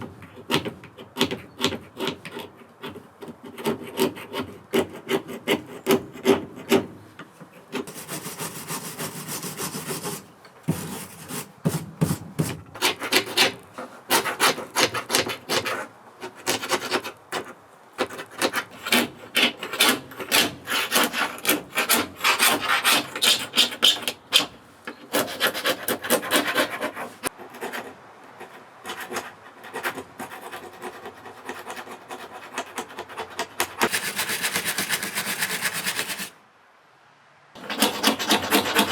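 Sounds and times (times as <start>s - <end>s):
hand tool rasping on wooden boards: 0.4s - 36.3s, 37.6s - 38.9s.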